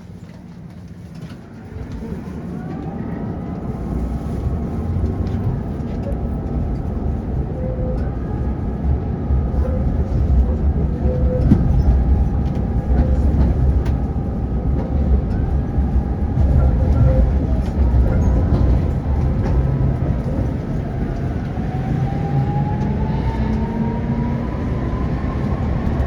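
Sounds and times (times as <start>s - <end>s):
wheels rumbling on rails: 0.0s - 26.0s
tram motor whine: 1.8s - 26.0s.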